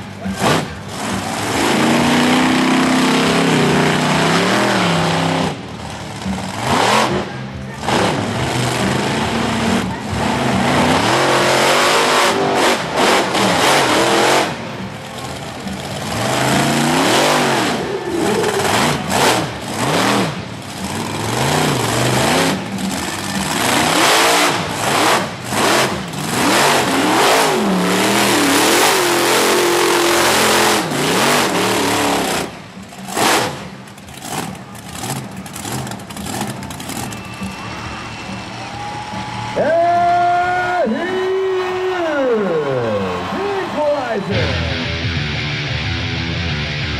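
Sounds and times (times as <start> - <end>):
monster truck engines revving: 0.0 - 46.9.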